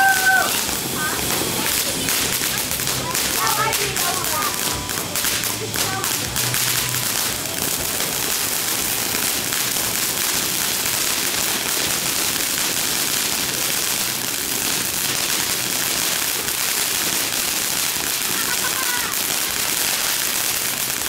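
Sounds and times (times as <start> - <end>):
fireworks hissing and crackling: 0.0 - 21.0.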